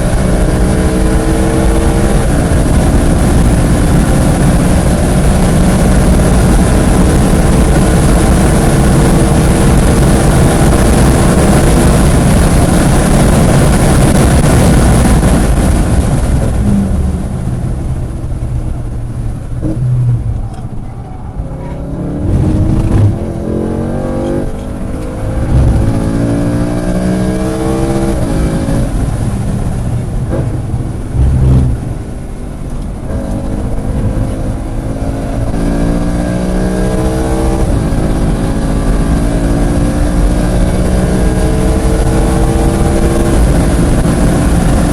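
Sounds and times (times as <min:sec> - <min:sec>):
race car engine revving: 0:00.0 - 0:16.1, 0:19.5 - 0:44.9
wind noise at speed: 0:00.0 - 0:44.9.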